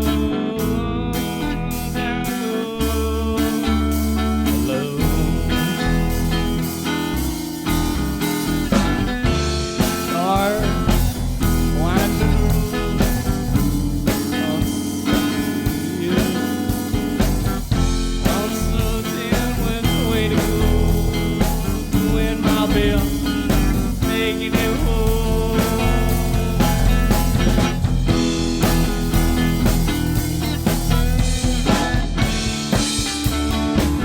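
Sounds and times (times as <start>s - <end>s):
blues-rock band playing: 0.0s - 34.0s.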